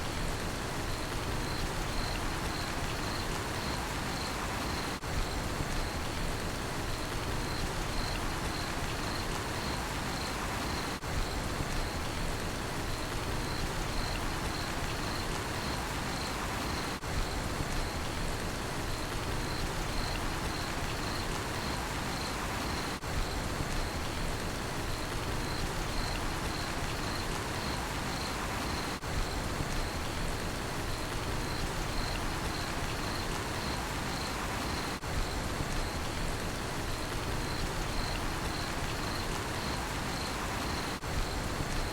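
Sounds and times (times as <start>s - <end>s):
rain pattering: 0.0s - 41.9s
cricket chirping: 0.8s - 6.2s, 6.9s - 12.2s, 12.9s - 18.2s, 18.9s - 24.2s, 24.8s - 36.2s, 37.0s - 41.9s.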